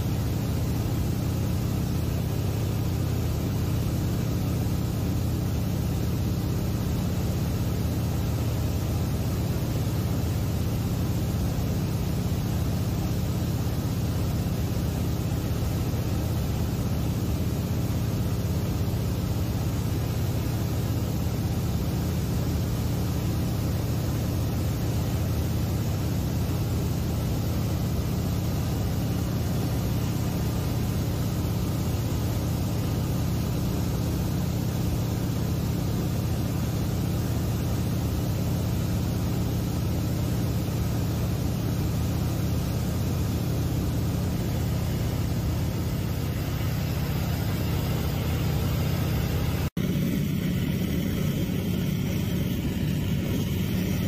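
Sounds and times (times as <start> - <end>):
seaplane engine drone in cabin: 0.0 - 54.0.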